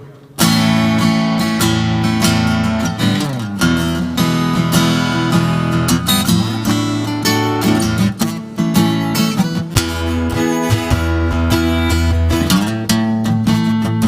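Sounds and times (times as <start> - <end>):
acoustic guitar strumming: 0.4 - 14.0.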